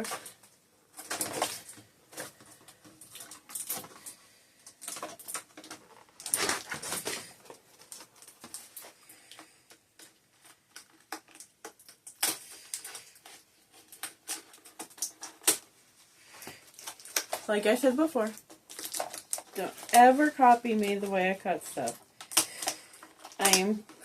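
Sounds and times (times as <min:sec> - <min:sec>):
plastic and cardboard rustling: 0:00.0 - 0:24.0.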